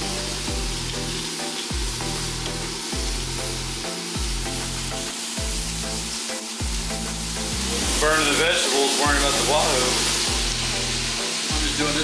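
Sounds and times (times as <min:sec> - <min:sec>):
background music with beat: 0:00.0 - 0:12.0
fish sizzling on griddle: 0:00.0 - 0:12.0.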